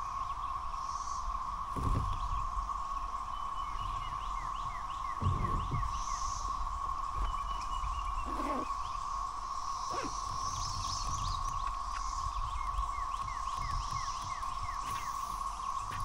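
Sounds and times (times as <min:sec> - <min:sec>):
cicadas droning chorus: 0:00.0 - 0:16.0
songbird chirping: 0:00.0 - 0:16.0.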